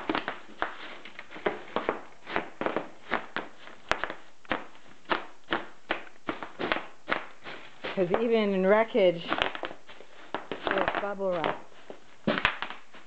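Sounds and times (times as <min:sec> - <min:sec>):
bubble wrap popping: 0:00.0 - 0:13.0.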